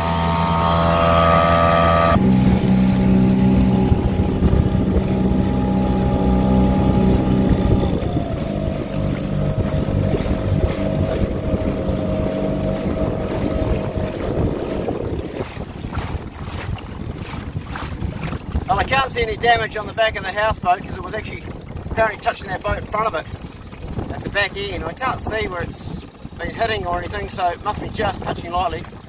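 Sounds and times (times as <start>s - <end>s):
outboard motor running: 0.0s - 29.0s
wind buffeting microphone: 2.1s - 29.0s.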